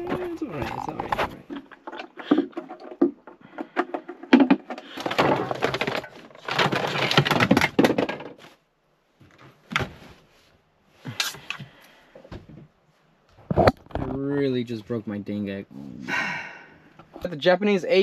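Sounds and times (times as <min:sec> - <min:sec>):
rustling and scraping: 0:00.0 - 0:15.1.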